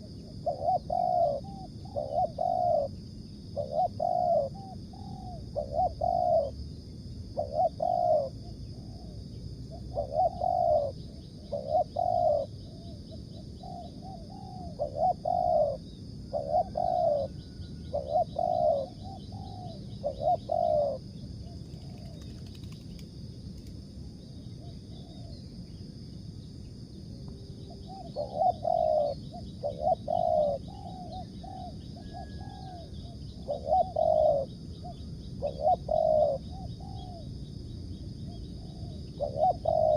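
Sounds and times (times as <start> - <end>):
dove cooing: 0.0 - 6.6, 7.3 - 22.8, 24.6 - 25.4, 27.6 - 37.3, 38.2 - 39.9
steady high-pitched hum: 0.0 - 39.9.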